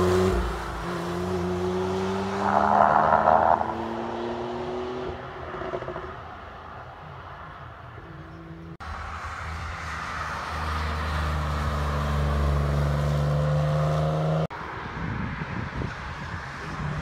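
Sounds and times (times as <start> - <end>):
distant car engine: 0.0 - 14.5.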